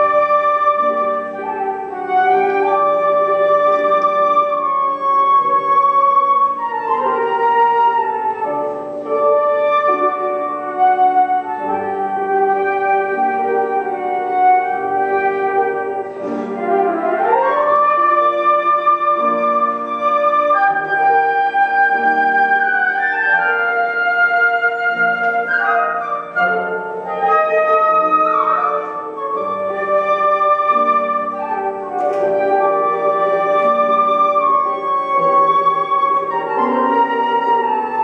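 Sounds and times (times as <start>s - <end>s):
flutes holding long notes: 0.0s - 38.0s
grand piano playing: 0.0s - 38.0s.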